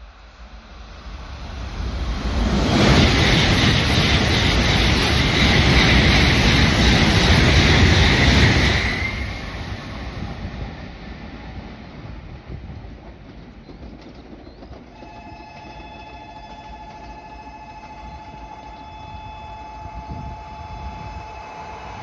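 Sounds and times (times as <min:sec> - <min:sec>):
bullet train passing at speed: 0:00.0 - 0:22.0.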